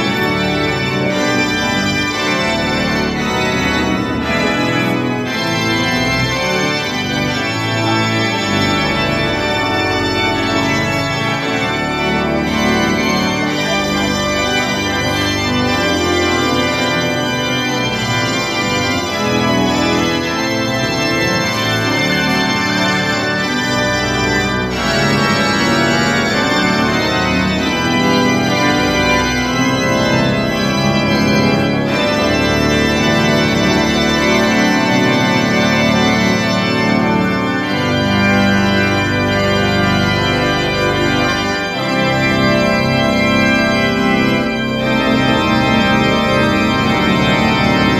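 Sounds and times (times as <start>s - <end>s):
pipe organ chords: 0.0s - 47.9s.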